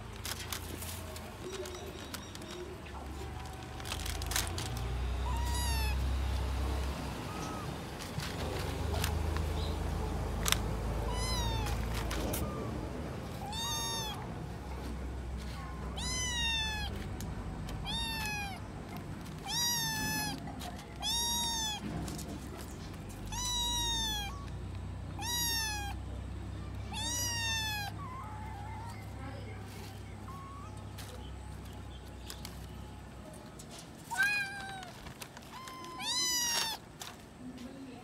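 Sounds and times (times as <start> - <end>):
kittens meowing: 2.6 - 31.4, 34.0 - 36.9.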